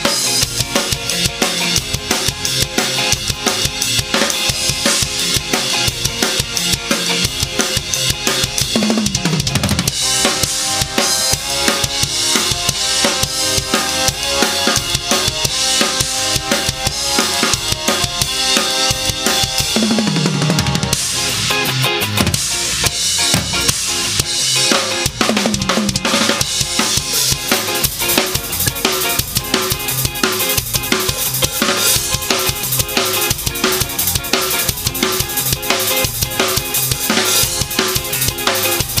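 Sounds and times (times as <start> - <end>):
drum kit playing: 0.0 - 39.0
ska backing track: 0.0 - 39.0.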